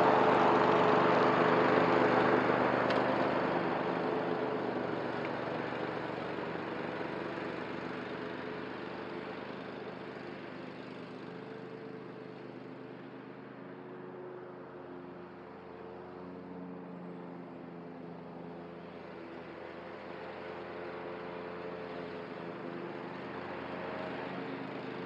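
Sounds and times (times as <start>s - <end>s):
mower engine hum: 0.0s - 25.0s.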